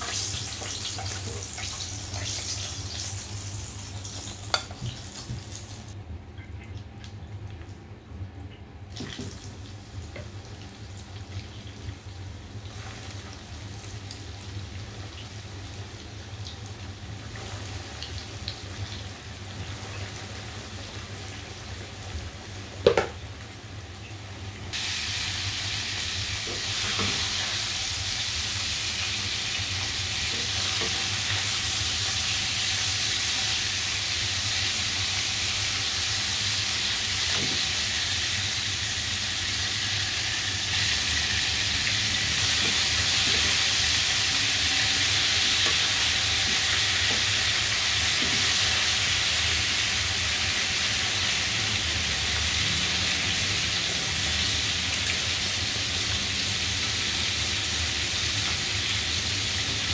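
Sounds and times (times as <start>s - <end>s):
chicken frying in hot oil: 0.0s - 6.0s, 8.8s - 59.9s.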